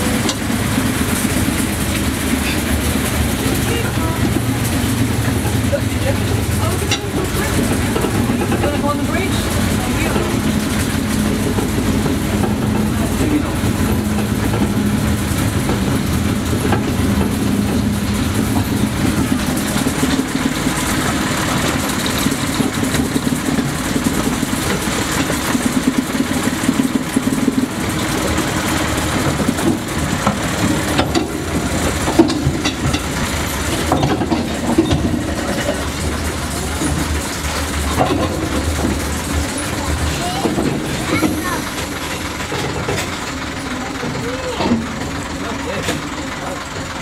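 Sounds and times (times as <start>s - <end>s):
carriage wheels rumbling on track: 0.0s - 47.0s
diesel locomotive engine running: 0.0s - 47.0s.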